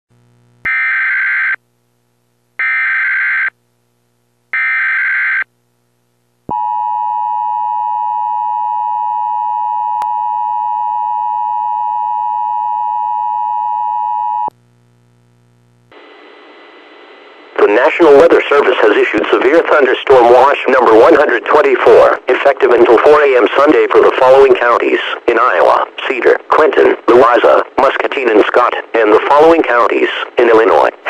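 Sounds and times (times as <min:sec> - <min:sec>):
faint low hum: 0:00.1 - 0:00.7, 0:05.5 - 0:30.3.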